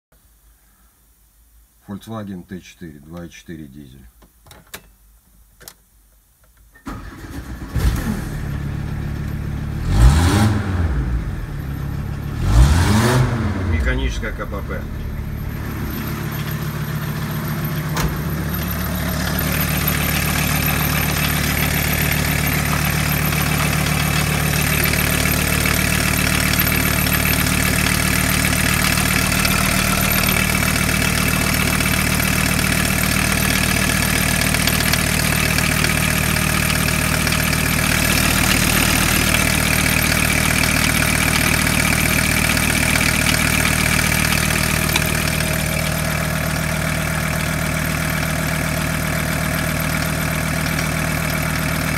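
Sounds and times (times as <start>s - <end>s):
diesel engine idling: 8.3s - 51.9s.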